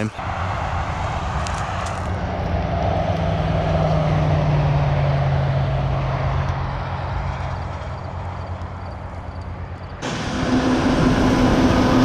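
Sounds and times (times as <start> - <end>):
large vehicle engine humming: 0.0 - 12.0.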